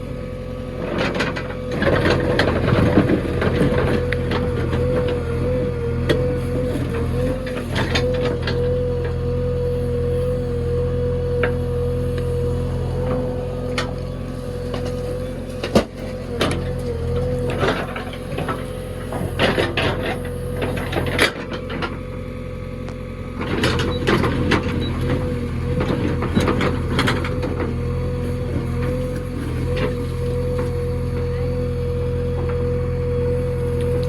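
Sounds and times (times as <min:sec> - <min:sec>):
diesel engine whining: 0:00.0 - 0:34.0.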